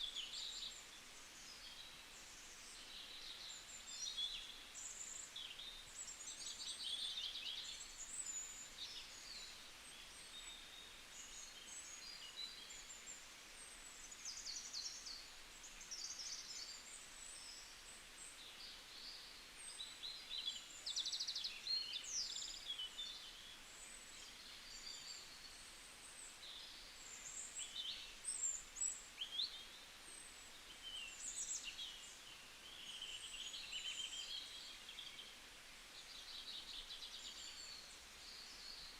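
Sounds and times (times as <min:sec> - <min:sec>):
faint steady hiss: 0:00.0 - 0:38.9
songbirds singing and chirping: 0:00.0 - 0:38.9.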